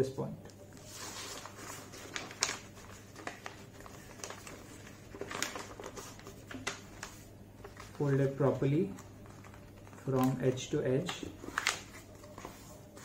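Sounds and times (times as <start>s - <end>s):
crisp paper crackles: 0.6s - 13.0s
paper rustling and crinkling: 0.6s - 13.0s.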